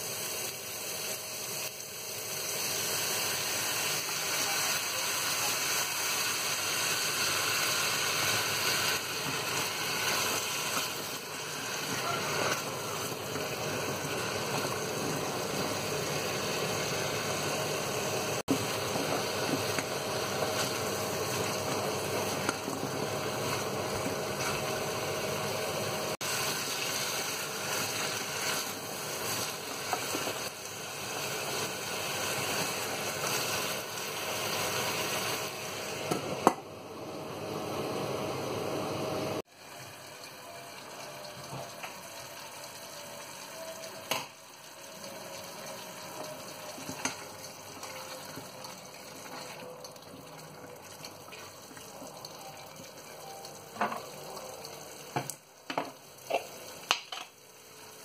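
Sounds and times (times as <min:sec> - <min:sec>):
squash sizzling and bubbling: 0:00.0 - 0:58.0.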